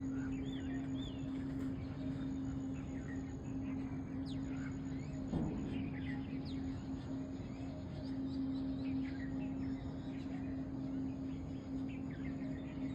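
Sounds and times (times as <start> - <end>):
low hum: 0.0 - 12.9
songbirds chirping: 0.0 - 12.9.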